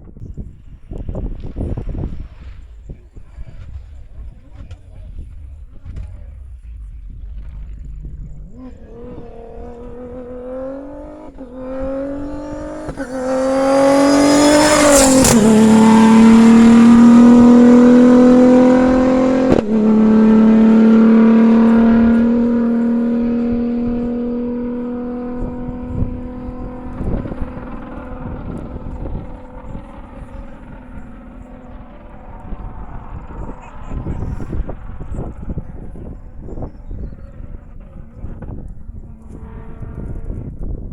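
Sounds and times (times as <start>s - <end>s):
car engine accelerating past: 0.7s - 40.9s.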